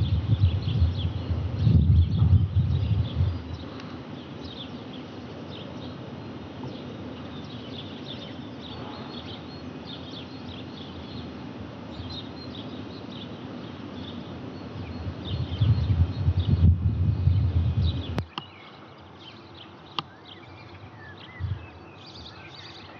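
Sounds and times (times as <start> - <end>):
small birds chirping: 0.0 - 22.9
steady outdoor hiss: 0.0 - 22.9.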